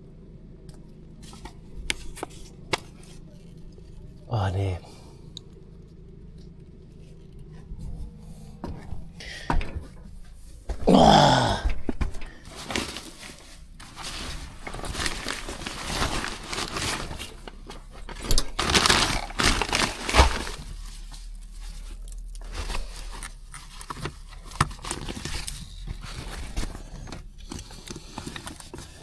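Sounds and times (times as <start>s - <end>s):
rustling and crinkling: 0.7s - 29.0s.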